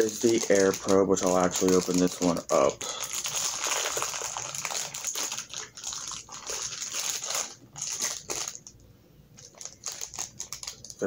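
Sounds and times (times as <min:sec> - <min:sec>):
plastic bag crinkling: 0:00.0 - 0:08.8, 0:09.4 - 0:11.0.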